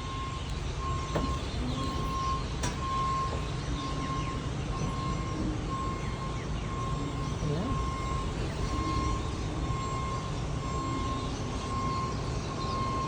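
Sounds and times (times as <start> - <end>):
low engine rumble: 0.0 - 13.0
vehicle reversing alarm beeping: 0.0 - 13.0
faint bird chirps: 0.4 - 13.0.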